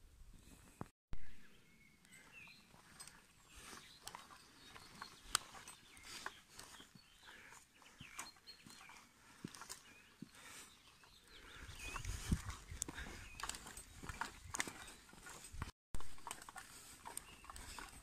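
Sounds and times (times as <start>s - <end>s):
faint birdsong chirping: 0.0s - 18.0s
footsteps crunching on stony track: 2.2s - 18.0s.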